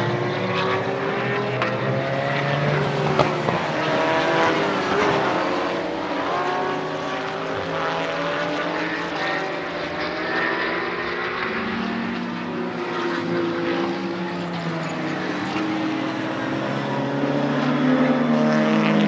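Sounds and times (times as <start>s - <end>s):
race car engines accelerating: 0.0s - 19.0s.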